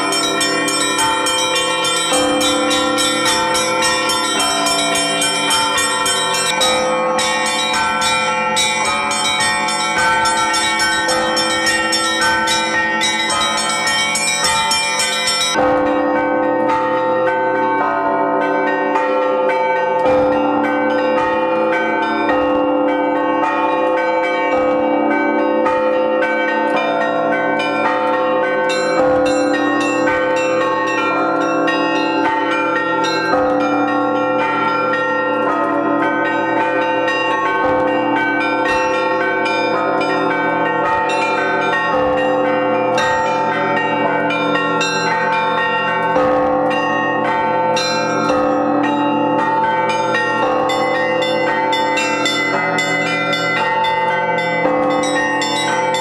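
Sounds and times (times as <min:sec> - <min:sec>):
middle church bells: 0:00.0 - 0:56.0
small church bells ringing fast: 0:00.0 - 0:56.0.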